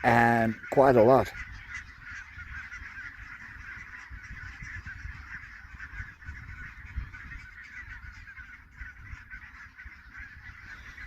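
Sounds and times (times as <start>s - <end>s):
geese honking: 0.0s - 11.0s
wind rumble on microphone: 0.0s - 11.0s.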